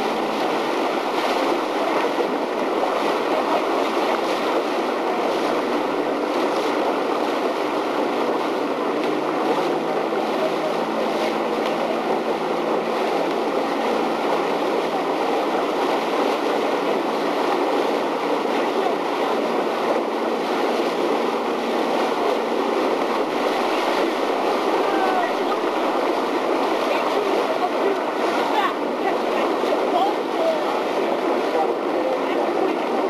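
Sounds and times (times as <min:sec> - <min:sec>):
boat engine running: 0:00.0 - 0:33.0
water rushing past hull: 0:00.0 - 0:33.0.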